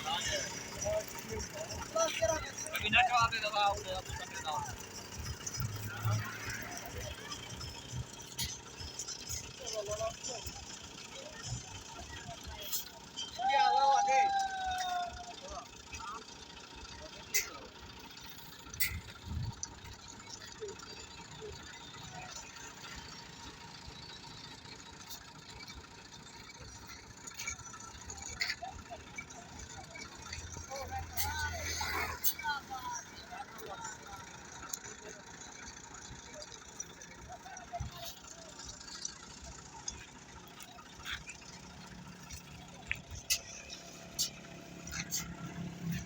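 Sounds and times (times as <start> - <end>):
machine engine running: 0.0 - 13.2, 15.4 - 46.0.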